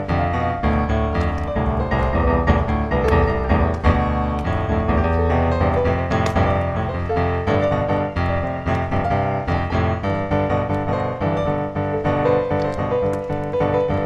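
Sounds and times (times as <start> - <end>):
piano music with bass line: 0.0 - 14.0.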